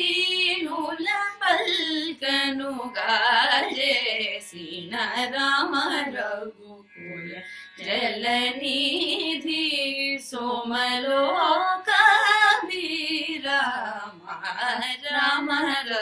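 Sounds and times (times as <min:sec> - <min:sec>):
women singing devotional song: 0:00.0 - 0:16.0.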